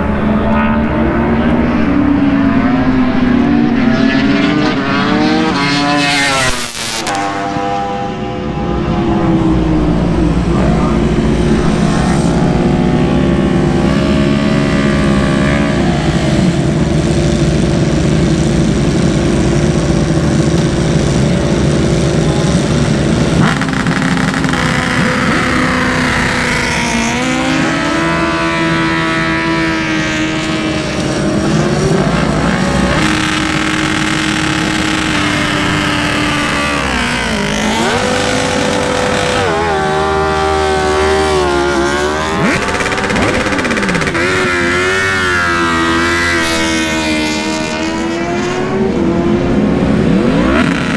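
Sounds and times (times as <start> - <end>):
motorcycle engine revving high: 0.0 - 50.9.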